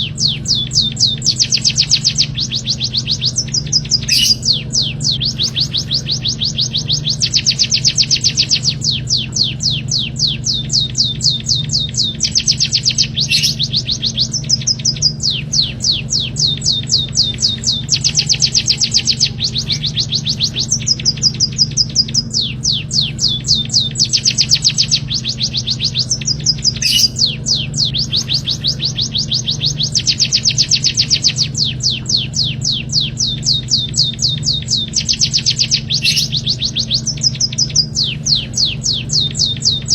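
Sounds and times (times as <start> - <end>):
songbirds trilling: 0.0 - 39.9
steady low hum: 0.0 - 39.9.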